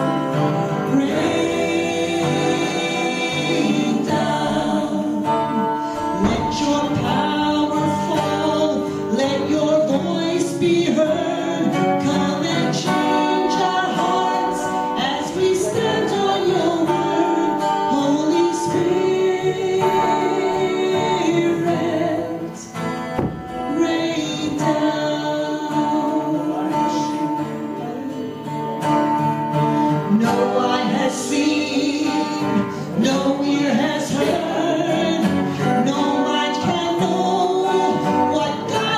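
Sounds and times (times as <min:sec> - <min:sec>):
woman singing into a microphone: 0:00.0 - 0:27.4, 0:30.0 - 0:38.9
strummed acoustic guitar: 0:00.0 - 0:38.9.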